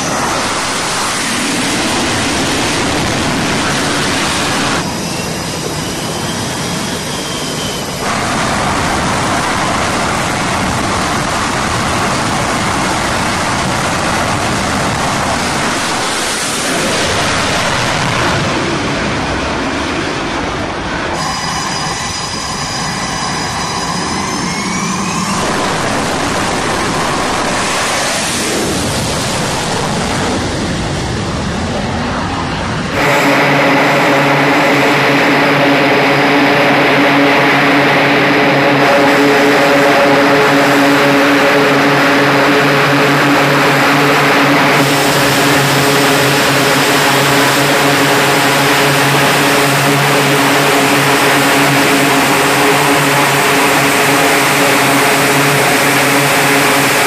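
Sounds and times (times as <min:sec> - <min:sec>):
jet engines roaring: 0:00.0 - 0:57.0
turboprop engines droning: 0:00.0 - 0:57.0.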